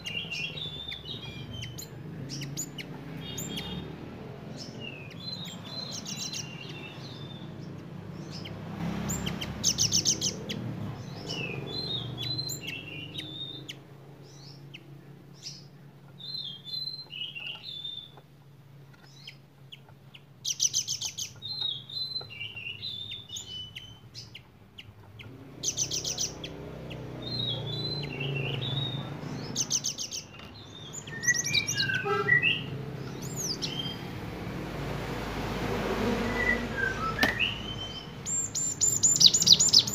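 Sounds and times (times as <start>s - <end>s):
bird singing chirps and twitters: 0.0s - 34.4s, 36.1s - 39.9s
high rapid bird trills: 0.0s - 39.9s.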